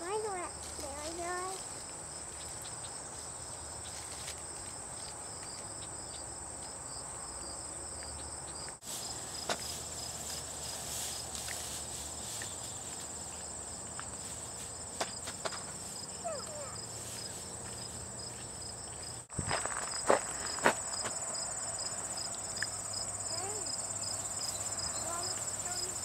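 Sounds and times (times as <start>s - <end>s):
leaves and grass rustling: 0.0s - 6.3s, 8.8s - 21.2s, 21.8s - 26.0s
insects trilling: 0.0s - 26.0s.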